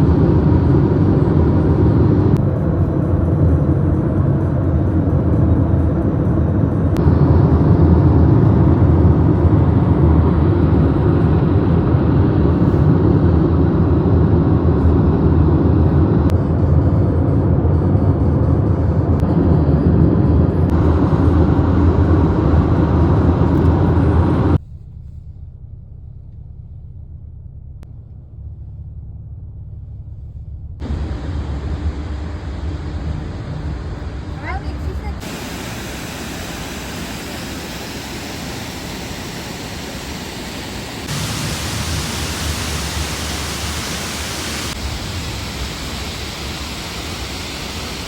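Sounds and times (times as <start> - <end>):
low hum: 0.0 - 48.0
road and engine rumble: 0.0 - 48.0.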